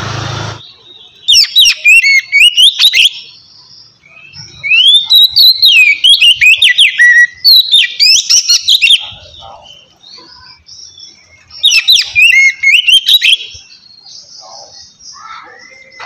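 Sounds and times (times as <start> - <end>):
bird singing whistled phrases: 0.6 - 16.0.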